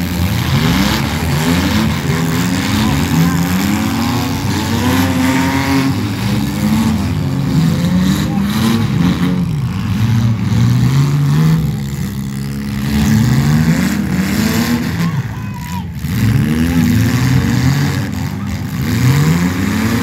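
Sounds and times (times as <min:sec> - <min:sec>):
car engines revving hard: 0:00.0 - 0:20.0.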